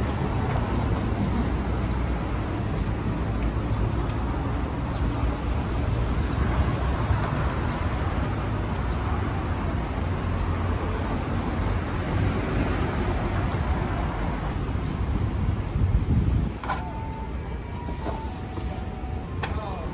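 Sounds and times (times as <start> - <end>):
road traffic noise: 0.0 - 19.9.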